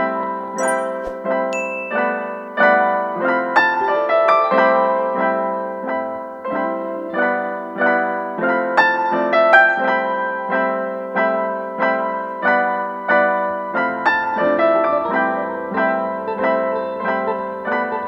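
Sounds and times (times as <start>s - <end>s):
soft piano chords: 0.0s - 18.0s.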